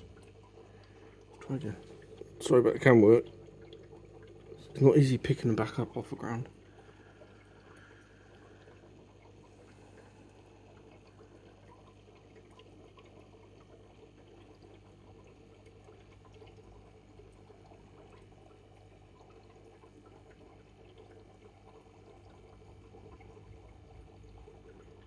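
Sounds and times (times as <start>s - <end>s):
aquarium filter water flow: 0.0s - 25.0s
low steady hum: 0.0s - 25.0s.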